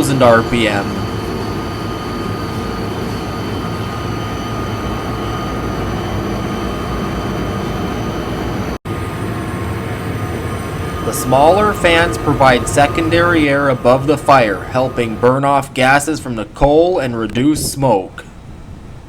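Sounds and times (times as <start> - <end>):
steady high tone: 0.0 - 18.3
draft fans roaring: 0.0 - 19.0.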